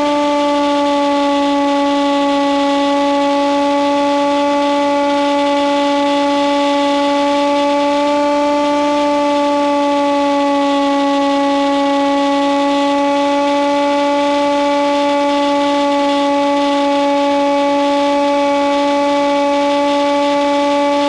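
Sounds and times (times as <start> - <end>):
model plane motor drone: 0.0 - 21.0.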